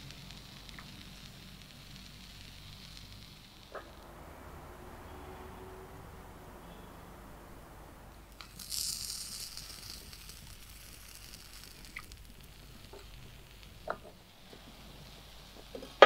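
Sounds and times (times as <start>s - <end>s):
brief sizzle: 0.8s - 16.0s.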